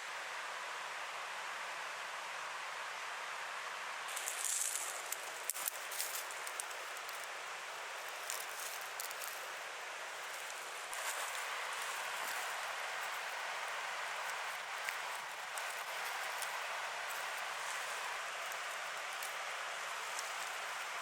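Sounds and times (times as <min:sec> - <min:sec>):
steady outdoor hiss: 0:00.0 - 0:21.0
rustling: 0:04.1 - 0:21.0.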